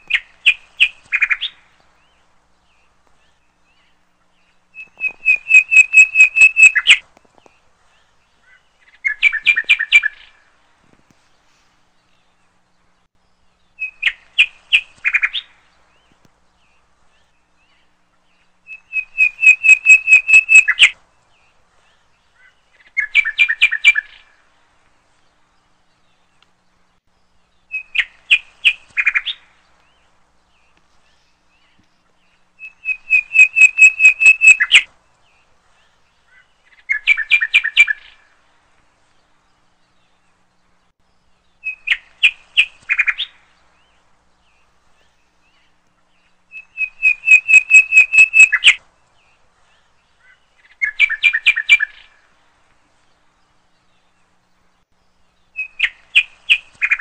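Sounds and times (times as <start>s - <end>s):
songbird singing rapid notes: 0.0s - 24.5s, 25.2s - 57.0s.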